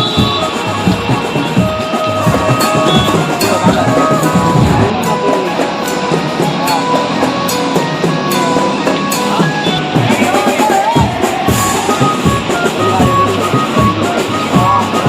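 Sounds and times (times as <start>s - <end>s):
band melody line: 0.0s - 15.0s
drum kit steady rhythm: 0.0s - 15.0s.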